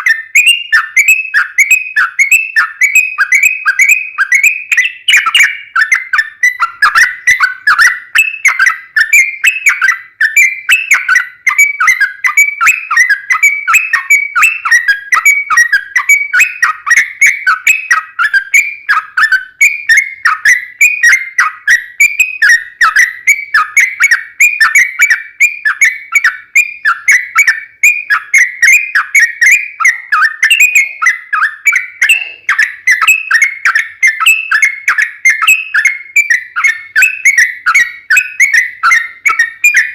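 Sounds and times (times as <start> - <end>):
bird singing rapid whistled notes: 0.0 - 39.9.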